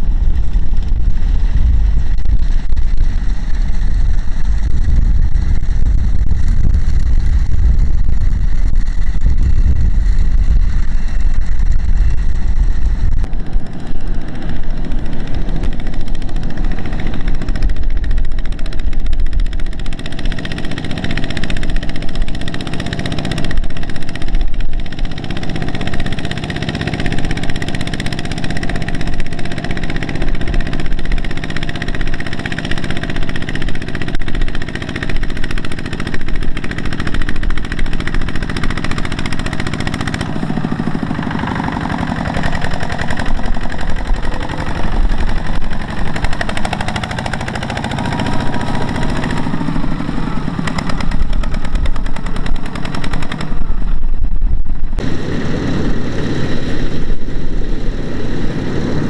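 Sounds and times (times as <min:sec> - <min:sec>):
diesel engine chugging under load: 0:00.0 - 0:59.0.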